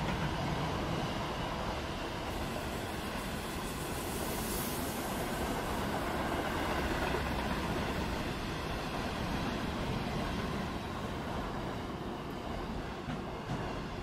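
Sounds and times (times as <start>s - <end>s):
steel wheels rolling on rail: 0.0s - 14.0s.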